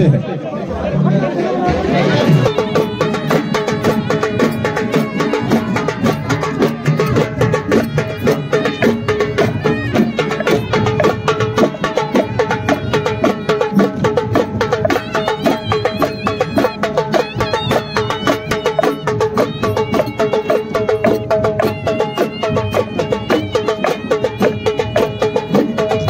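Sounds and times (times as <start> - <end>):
fast even drumming: 1.7 - 26.0.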